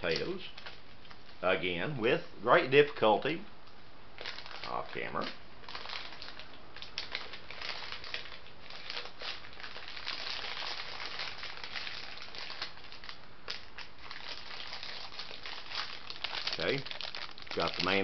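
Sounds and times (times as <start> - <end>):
pouches crinkling and rustling: 0.0 - 1.6, 4.2 - 18.0.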